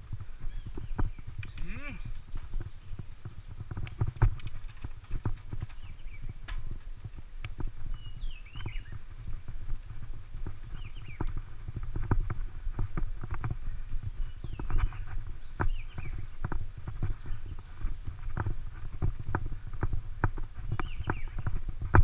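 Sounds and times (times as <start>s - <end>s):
bicycle rattling: 0.0s - 22.0s
wind and road noise rumble: 0.0s - 22.0s.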